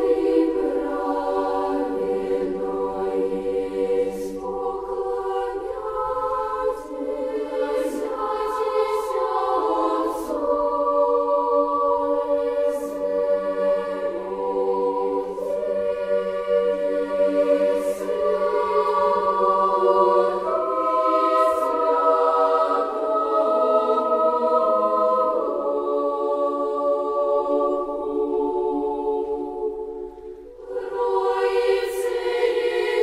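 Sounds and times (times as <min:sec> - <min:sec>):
unaccompanied choir singing: 0:00.0 - 0:33.0.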